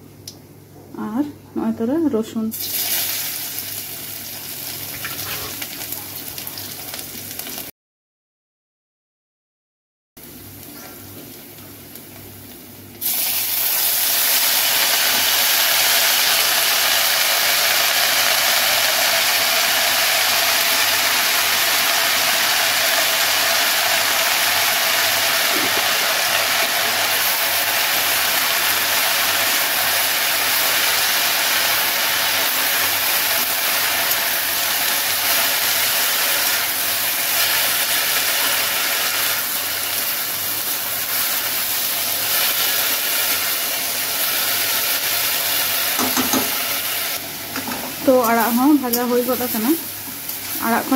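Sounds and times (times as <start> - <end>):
greens sizzling in hot oil: 2.5 - 7.7, 11.5 - 50.9.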